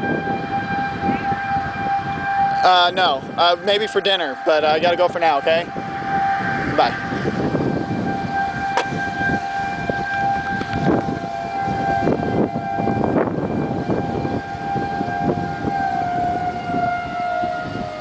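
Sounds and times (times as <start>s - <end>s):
gusty wind on microphone: 0.0s - 18.0s
warning siren wailing: 0.0s - 18.0s.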